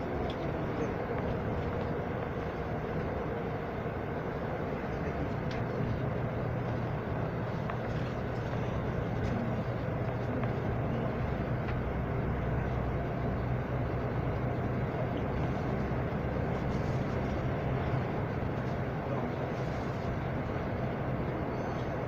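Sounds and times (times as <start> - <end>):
moving vehicle rumble: 0.0 - 22.0
road noise: 0.0 - 22.0.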